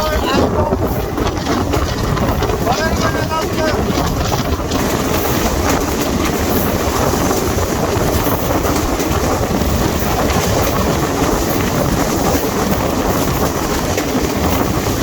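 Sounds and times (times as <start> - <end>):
clickety-clack of train wheels: 0.0 - 15.0
train wheels rumbling on rails: 0.0 - 15.0.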